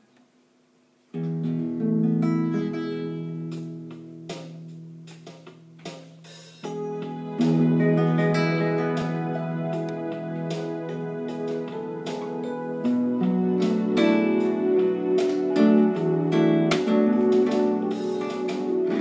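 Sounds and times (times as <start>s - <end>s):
acoustic guitar chords: 1.1s - 5.9s, 6.6s - 19.0s.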